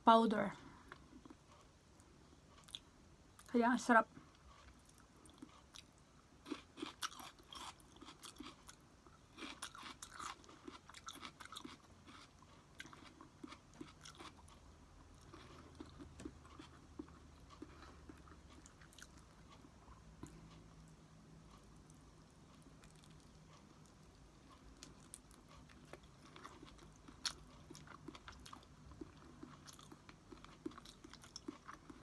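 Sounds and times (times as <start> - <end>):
person chewing food: 0.7 - 3.5, 4.2 - 32.0.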